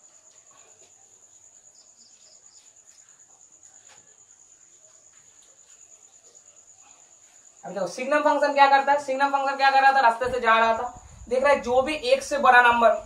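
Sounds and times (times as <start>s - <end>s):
cricket trilling: 0.0s - 13.0s
quick cricket chirps: 0.0s - 13.0s.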